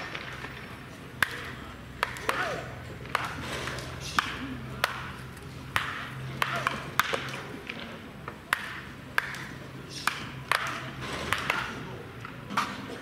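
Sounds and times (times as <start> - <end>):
wooden bats cracking balls: 0.0 - 13.0
murmur of voices: 0.3 - 13.0.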